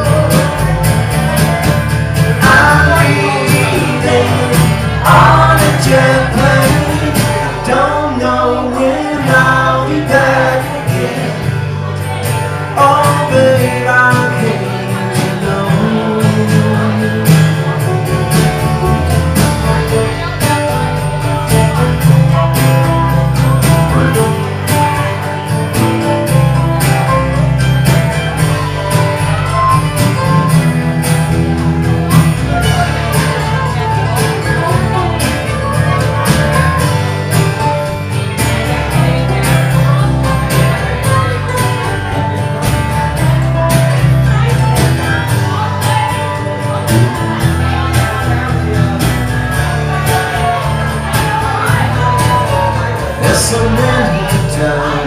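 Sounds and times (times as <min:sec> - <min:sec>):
acoustic band playing: 0:00.0 - 0:55.0
plucked string lead melody: 0:00.0 - 0:55.0.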